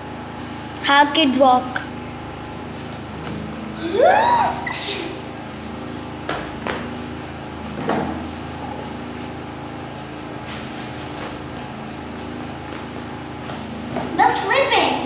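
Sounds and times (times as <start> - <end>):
steady room hum: 0.0 - 15.0.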